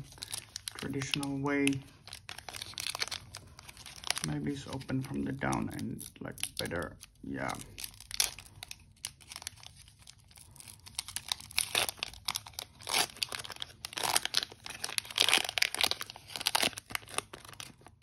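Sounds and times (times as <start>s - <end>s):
foil pack crinkling and tearing: 0.0s - 18.0s.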